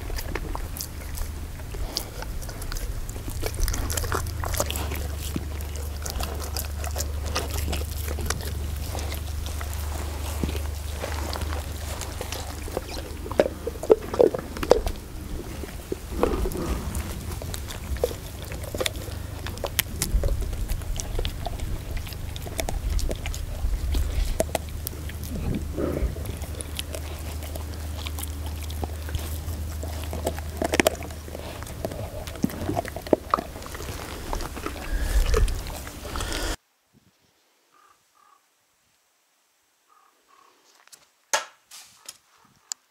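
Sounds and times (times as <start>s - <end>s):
dog chewing on bone: 0.0s - 36.6s.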